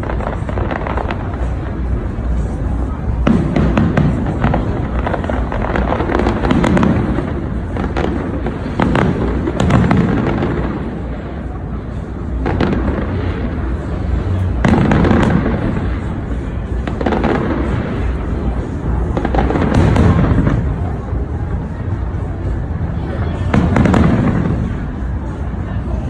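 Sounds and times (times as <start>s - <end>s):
fireworks booming bursts: 0.0s - 25.7s
fireworks bangs and crackling: 0.0s - 26.0s.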